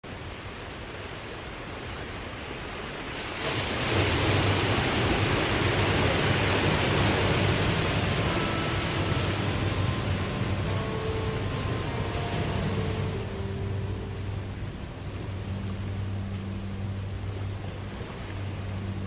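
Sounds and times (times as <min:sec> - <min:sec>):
waterfall rushing: 0:00.2 - 0:19.0.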